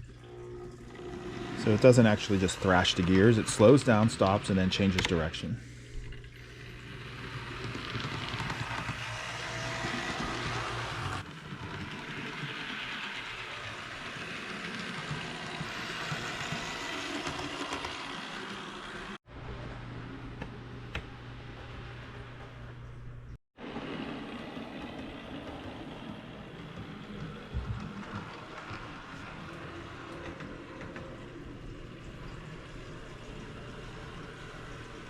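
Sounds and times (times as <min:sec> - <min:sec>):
wheels rolling on rails: 0:00.0 - 0:35.0
model train motor whir: 0:00.9 - 0:05.5, 0:06.1 - 0:19.2, 0:23.7 - 0:35.0.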